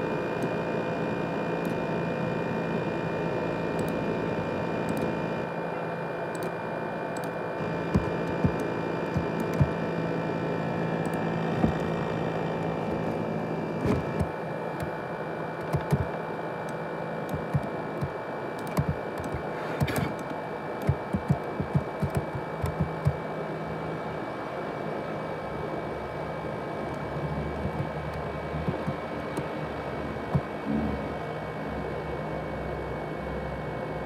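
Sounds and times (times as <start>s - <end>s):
laptop cooling fan whining: 0.0s - 34.0s.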